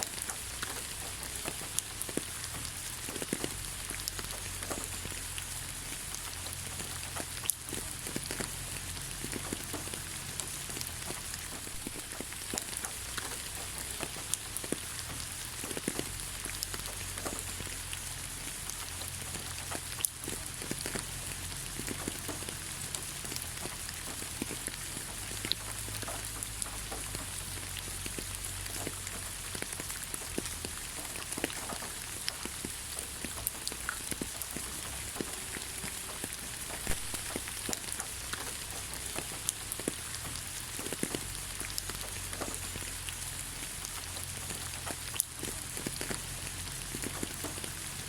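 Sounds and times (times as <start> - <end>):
rain falling on ground: 0.0 - 48.0.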